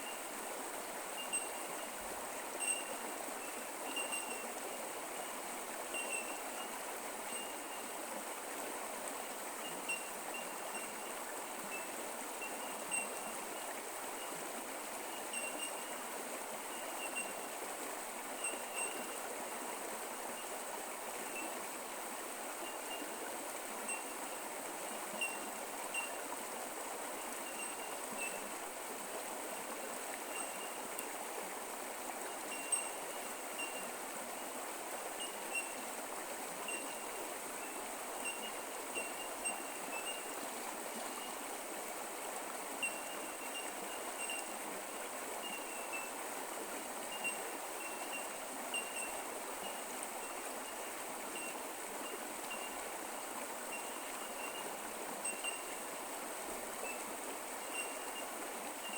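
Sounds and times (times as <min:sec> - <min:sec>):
creek water over rocks: 0:00.0 - 0:58.9.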